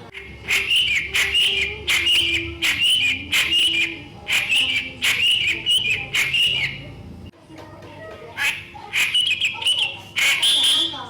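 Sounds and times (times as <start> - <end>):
songbird whistling phrase: 0.1 - 6.8, 8.4 - 11.0.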